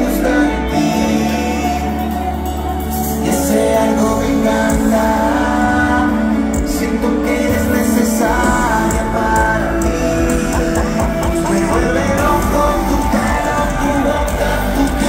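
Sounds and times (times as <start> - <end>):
live concert music with strong bass: 0.0 - 15.0
person singing: 0.0 - 15.0.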